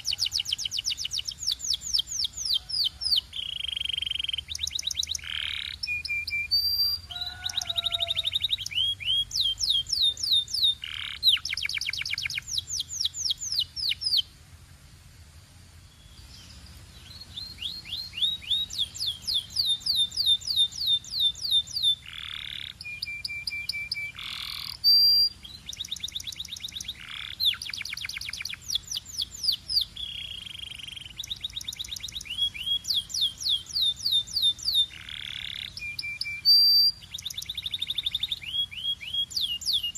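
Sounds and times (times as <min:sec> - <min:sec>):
canary singing trills: 0:00.0 - 0:14.4, 0:15.8 - 0:39.9.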